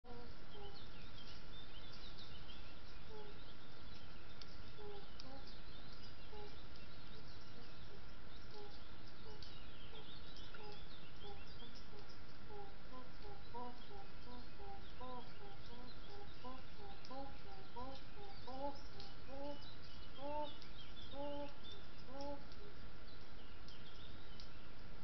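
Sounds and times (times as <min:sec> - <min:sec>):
small birds chirping: 0:00.1 - 0:25.0.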